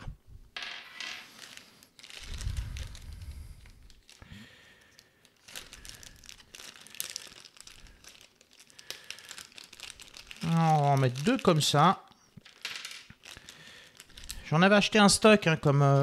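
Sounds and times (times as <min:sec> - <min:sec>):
plastic packaging crinkling: 0:01.3 - 0:14.7.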